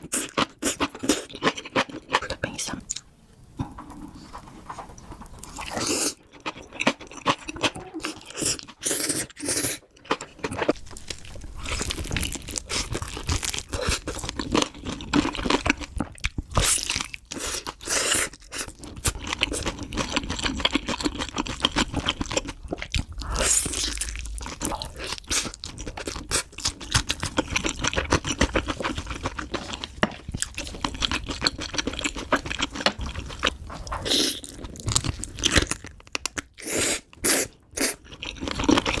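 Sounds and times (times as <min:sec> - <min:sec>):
person chewing food: 0:00.0 - 0:03.1, 0:04.1 - 0:39.0
crunching: 0:03.8 - 0:36.6.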